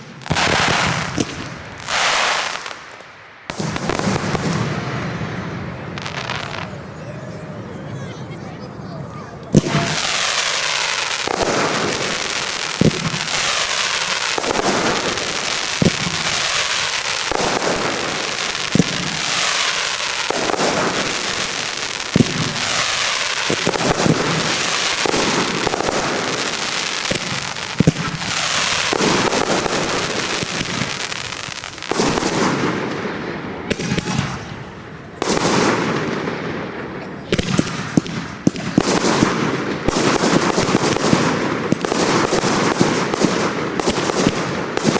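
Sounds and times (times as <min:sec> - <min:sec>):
fireworks crackling and fizzing: 0:00.0 - 0:07.6, 0:08.2 - 0:44.9
fireworks bangs: 0:00.0 - 0:44.9.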